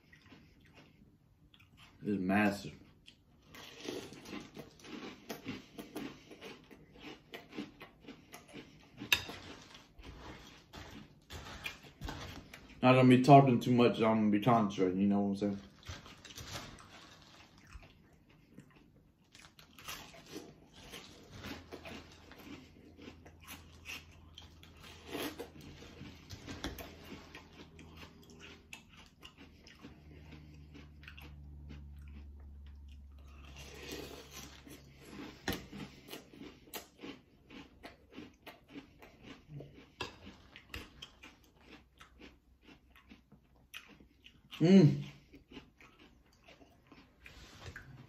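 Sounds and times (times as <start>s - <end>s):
person chewing crunchy cereal: 0.0s - 48.0s.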